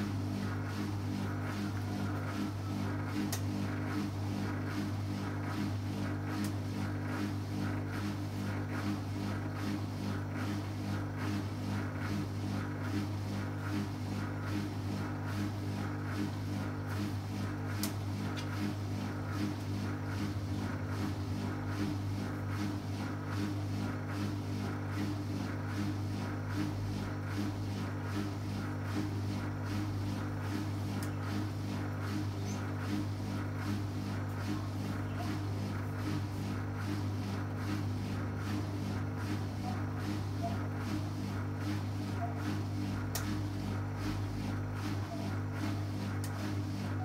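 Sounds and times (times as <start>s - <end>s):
washing machine motor hum: 0.0s - 47.0s.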